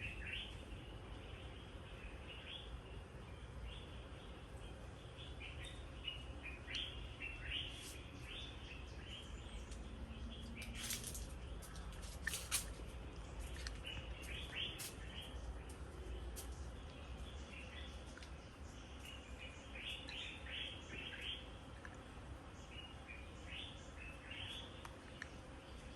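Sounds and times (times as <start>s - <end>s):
birds chirping: 0.0s - 21.7s.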